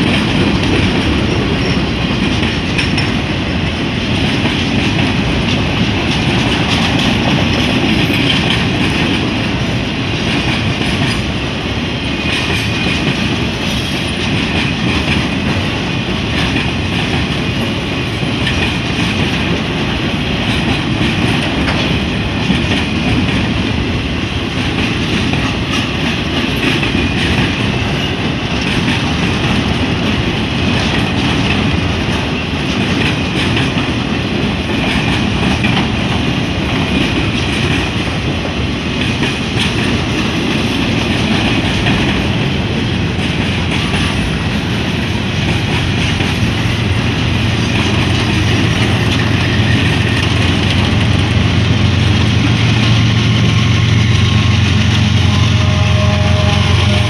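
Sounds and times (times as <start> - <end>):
diesel locomotive drone: 0.0 - 57.0
freight train rolling past: 0.0 - 57.0.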